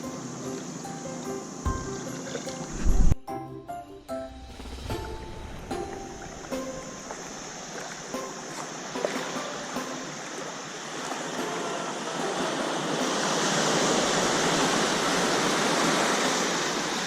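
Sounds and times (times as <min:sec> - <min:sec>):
water rushing: 0:00.0 - 0:03.2, 0:04.0 - 0:17.0.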